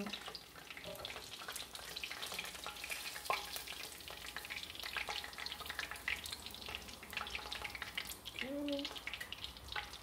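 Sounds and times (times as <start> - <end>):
oil crackling and popping: 0.0 - 10.0.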